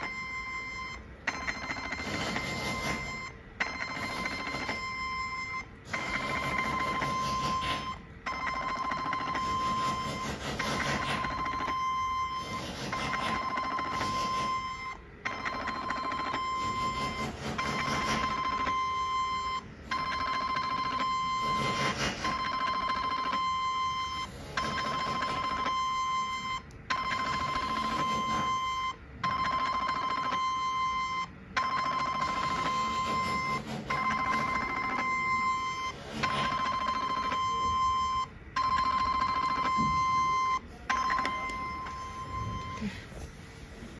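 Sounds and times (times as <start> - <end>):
machine beeping high tone: 0.0 - 43.2.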